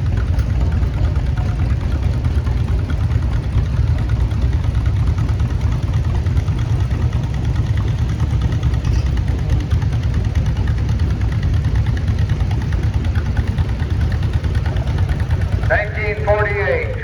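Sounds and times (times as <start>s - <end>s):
tractor engine running slowly: 0.0s - 17.0s.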